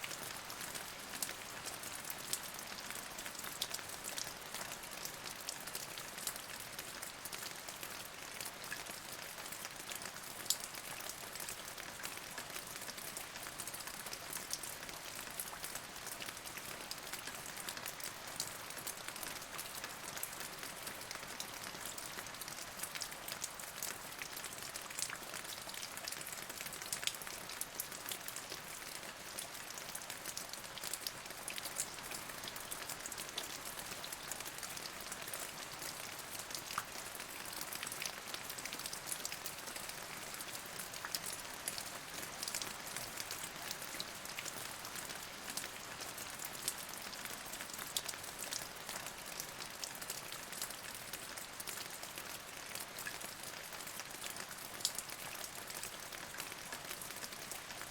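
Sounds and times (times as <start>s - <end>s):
raindrops ticking on a surface: 0.0s - 57.9s
steady rain falling: 0.0s - 57.9s.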